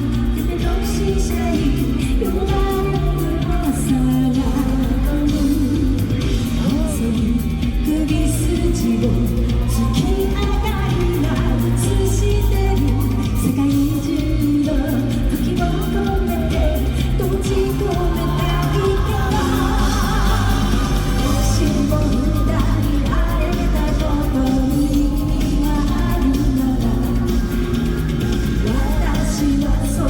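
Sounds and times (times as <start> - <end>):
pop-rock band playing: 0.0 - 30.0
woman singing: 0.0 - 30.0.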